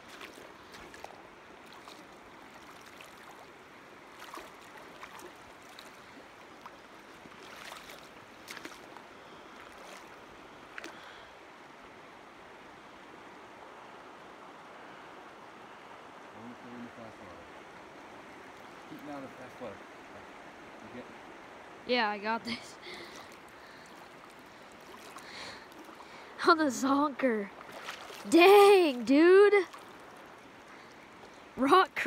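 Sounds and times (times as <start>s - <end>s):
creek water flowing: 0.0s - 32.0s.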